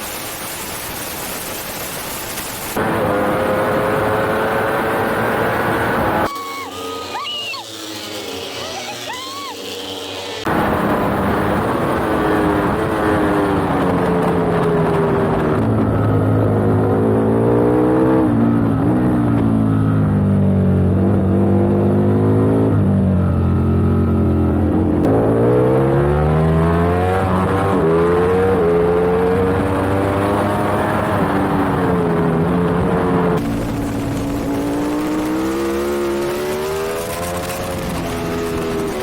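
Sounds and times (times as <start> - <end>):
motorcycle engine at race pace: 2.4 - 39.0.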